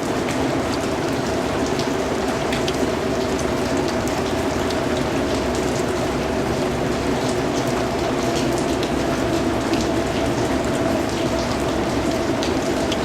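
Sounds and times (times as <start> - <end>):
raindrops ticking on a surface: 0.0 - 13.0
steady rain: 0.0 - 13.0.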